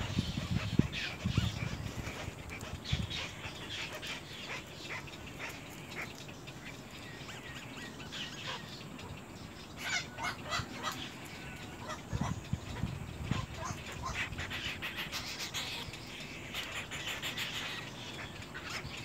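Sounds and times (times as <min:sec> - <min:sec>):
bird chicks chattering calls: 0:00.0 - 0:19.0.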